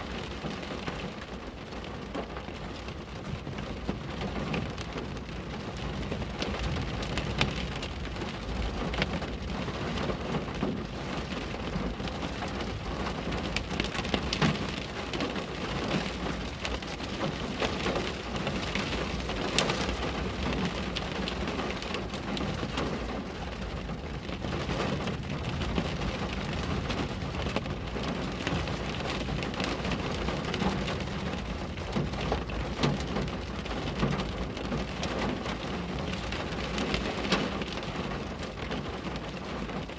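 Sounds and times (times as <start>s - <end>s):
low rain rumble: 0.0s - 39.9s
rain drops ticking on glass: 0.0s - 39.9s.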